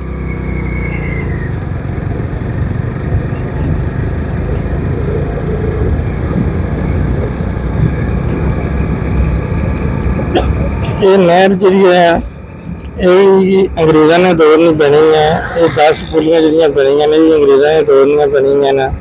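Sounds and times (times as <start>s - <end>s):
road and wind noise: 0.0s - 19.0s
vehicle engine drone: 0.0s - 19.0s.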